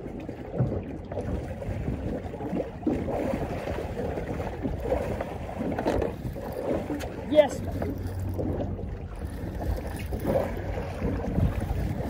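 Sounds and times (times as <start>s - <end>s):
water slapping boat hull: 0.0s - 12.0s
wind on microphone: 0.0s - 12.0s.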